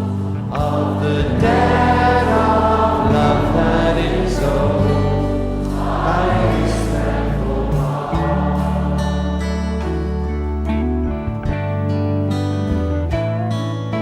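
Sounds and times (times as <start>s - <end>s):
choral church music: 0.0s - 11.5s.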